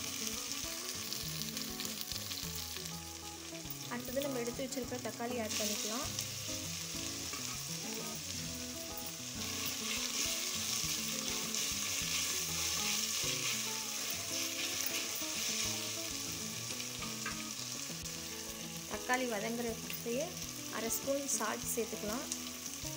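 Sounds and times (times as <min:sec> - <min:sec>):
vegetables sizzling in oil: 0:00.0 - 0:22.9.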